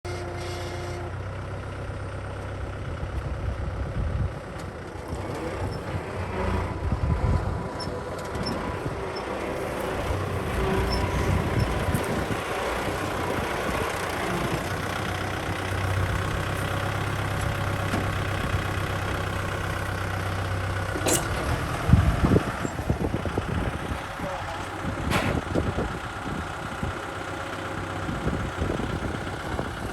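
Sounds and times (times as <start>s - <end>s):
tractor diesel engine running: 0.1s - 29.9s.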